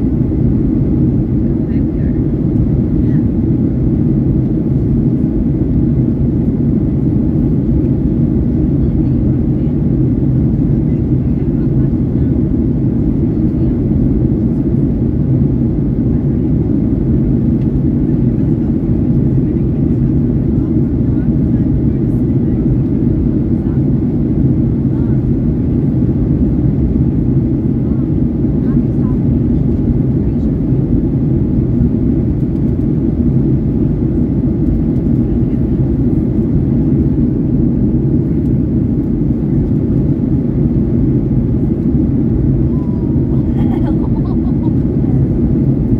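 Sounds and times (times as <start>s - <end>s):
airplane cabin engine roar: 0.0s - 45.9s.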